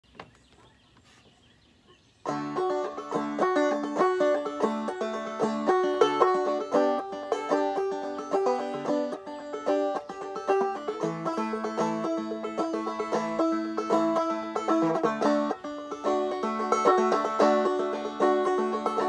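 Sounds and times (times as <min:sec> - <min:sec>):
banjo playing: 0:02.3 - 0:19.0.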